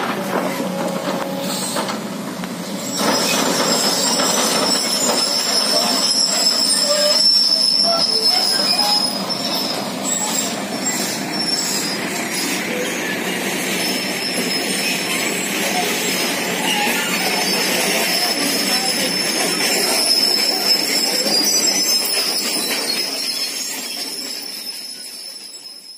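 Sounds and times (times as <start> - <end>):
high-pitched squeal: 2.7 - 25.9.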